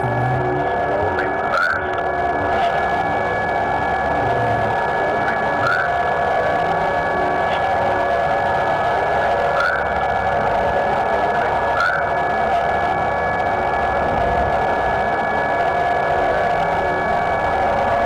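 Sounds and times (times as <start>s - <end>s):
electronic drone and hiss: 0.0s - 18.0s.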